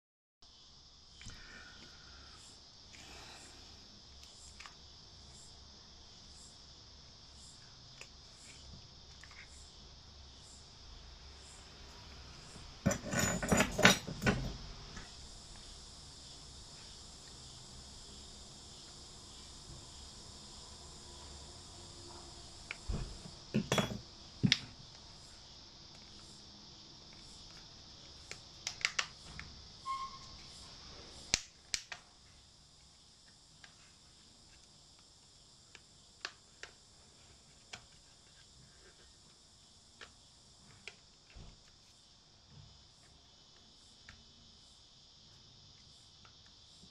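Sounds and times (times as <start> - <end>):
faint steady hiss: 0.4 - 46.9.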